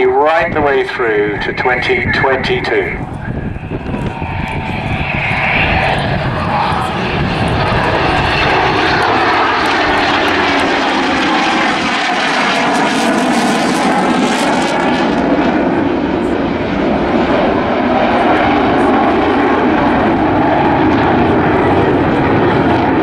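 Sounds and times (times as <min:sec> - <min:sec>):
aircraft engines roaring: 0:00.0 - 0:23.0.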